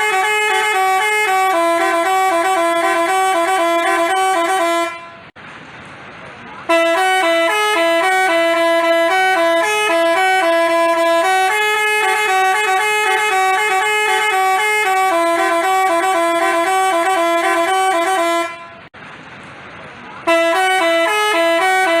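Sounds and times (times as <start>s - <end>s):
musical bus horn melody: 0.0s - 5.4s, 6.7s - 18.9s, 20.2s - 22.0s.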